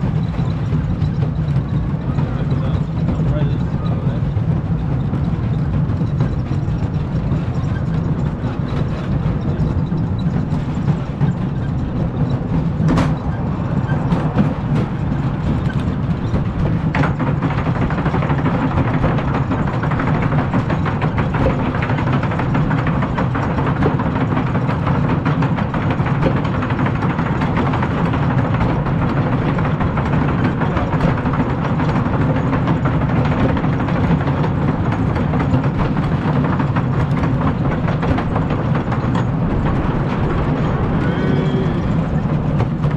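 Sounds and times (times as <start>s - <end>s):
roller coaster rumbling on track: 0.0s - 42.9s
sharp clacks: 0.0s - 42.9s.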